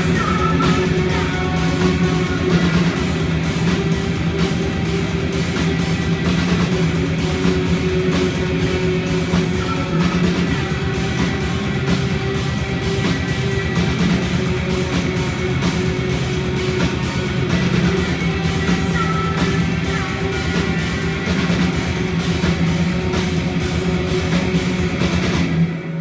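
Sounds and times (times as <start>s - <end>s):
drum kit beat: 0.0s - 25.8s
electric guitars: 0.0s - 26.0s.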